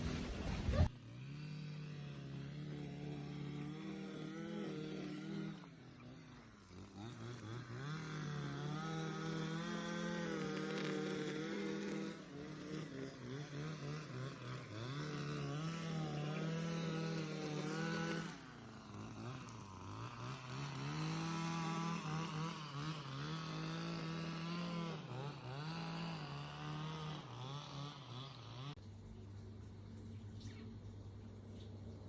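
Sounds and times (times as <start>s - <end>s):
small petrol engine revving: 0.0s - 29.0s.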